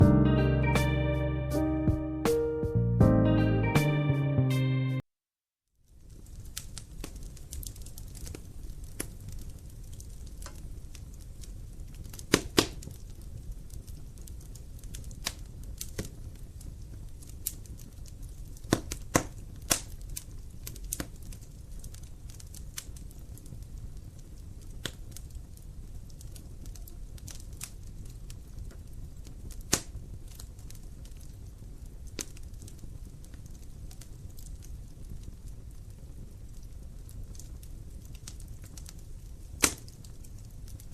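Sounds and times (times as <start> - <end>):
burning logs crackling and popping: 5.9 - 40.9
fire low rumble: 5.9 - 40.9.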